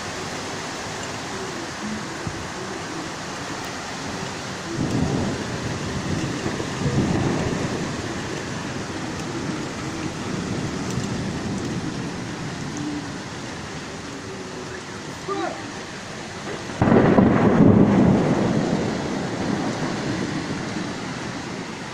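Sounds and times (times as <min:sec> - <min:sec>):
heavy rain: 0:00.0 - 0:21.9
low rumbling surges: 0:01.8 - 0:21.9
strong wind: 0:02.0 - 0:21.9.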